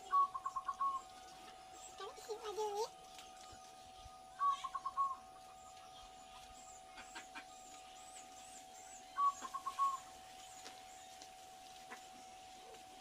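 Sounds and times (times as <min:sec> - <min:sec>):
bird calling: 0:00.0 - 0:11.2
small birds chirping: 0:00.0 - 0:13.0.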